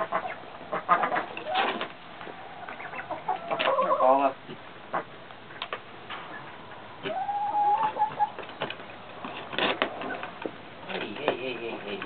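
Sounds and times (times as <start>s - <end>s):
farmyard bird calling: 0.0s - 12.0s.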